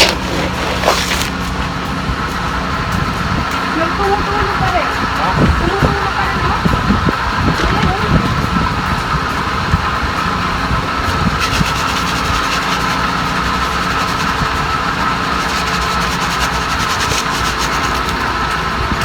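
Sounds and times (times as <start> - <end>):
engine running with whine: 0.0 - 19.0.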